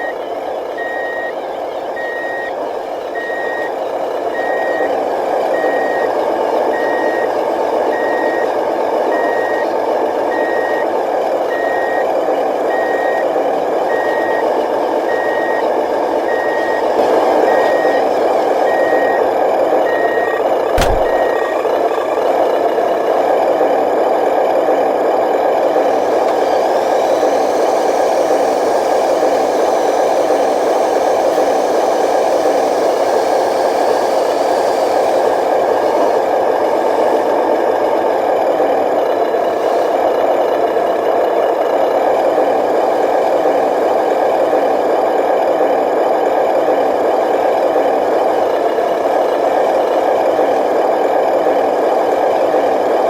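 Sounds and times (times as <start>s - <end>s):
toy truck motor drone: 0.0s - 22.8s, 24.6s - 53.0s.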